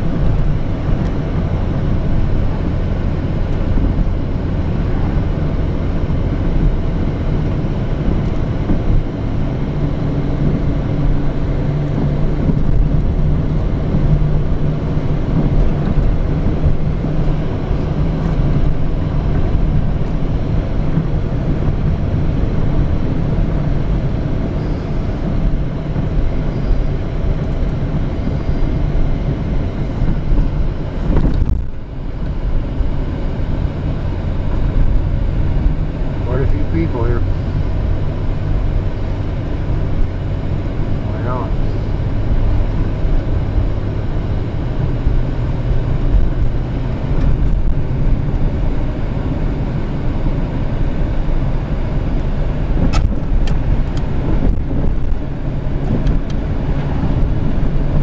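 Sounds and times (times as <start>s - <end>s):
engine and tyre rumble: 0.0s - 58.0s
faint engine drone: 0.0s - 58.0s.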